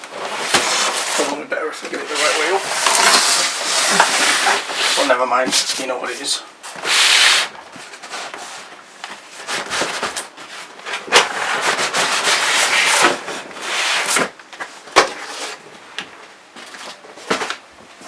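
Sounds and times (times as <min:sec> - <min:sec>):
cardboard packaging rustling: 0:00.0 - 0:15.6.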